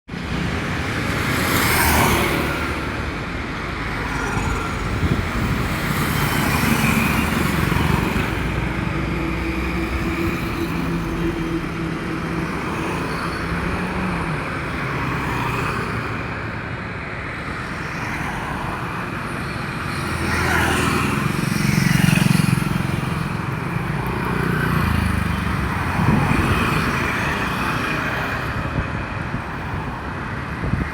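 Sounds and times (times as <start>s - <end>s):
road traffic noise: 0.1s - 30.9s.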